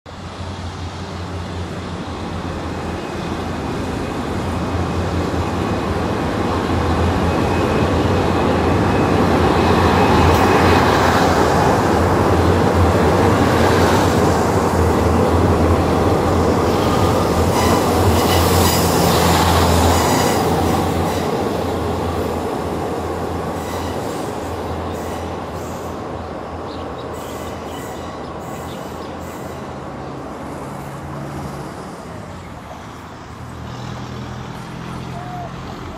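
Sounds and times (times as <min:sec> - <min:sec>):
train rumbling over steel bridge: 0:00.1 - 0:35.9.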